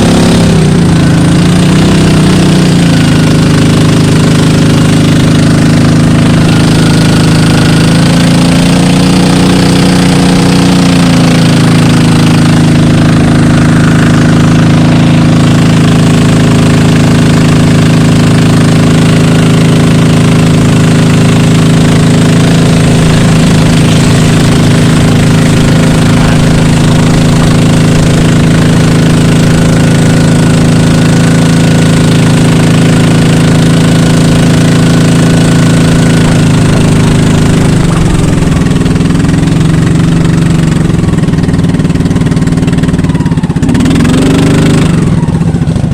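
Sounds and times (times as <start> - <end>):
boat engine running: 0.0 - 45.9.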